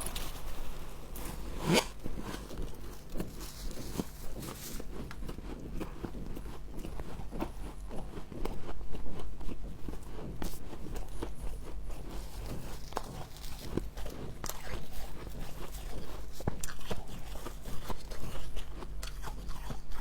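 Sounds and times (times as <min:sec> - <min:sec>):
crunching frost in mouth: 0:00.0 - 0:09.6, 0:10.2 - 0:20.0.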